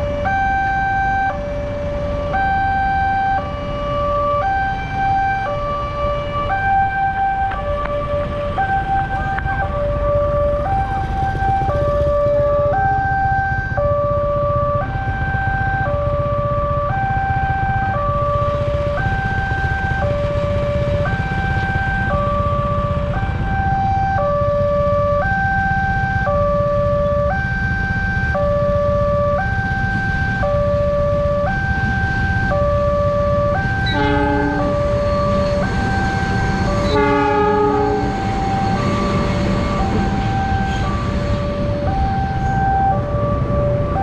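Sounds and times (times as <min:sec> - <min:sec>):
low rumble of traffic: 0:00.0 - 0:44.0
railroad crossing two-tone alarm: 0:00.0 - 0:44.0.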